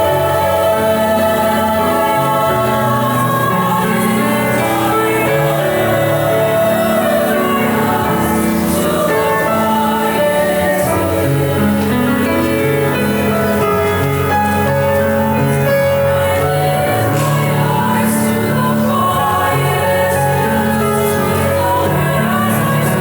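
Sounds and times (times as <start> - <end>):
chorus singing: 0.0 - 23.0
musical accompaniment: 0.0 - 23.0.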